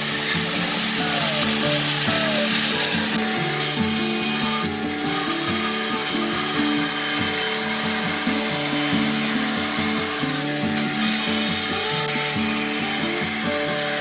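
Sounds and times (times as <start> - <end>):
tool rasping wood: 0.0 - 14.0.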